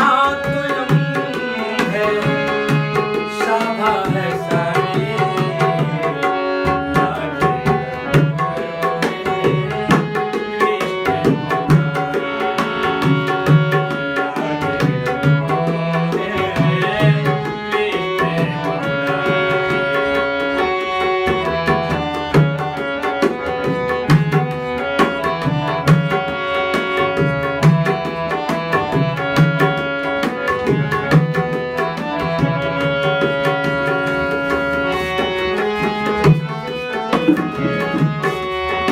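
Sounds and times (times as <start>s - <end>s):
hand drum rhythm: 0.0s - 38.9s
sustained melody line: 0.0s - 38.9s.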